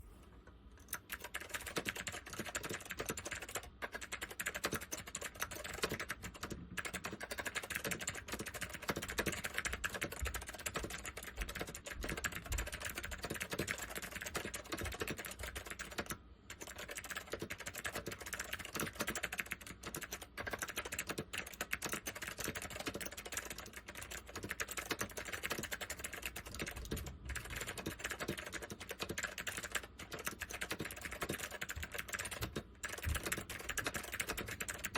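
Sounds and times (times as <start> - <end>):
fast mechanical keyboard typing: 0.8 - 34.9.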